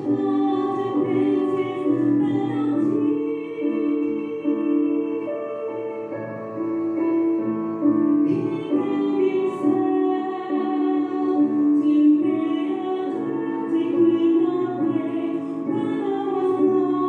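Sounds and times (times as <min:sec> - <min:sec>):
woman singing into a microphone: 0:00.0 - 0:06.9, 0:07.9 - 0:17.0
instrumental accompaniment: 0:00.0 - 0:17.0.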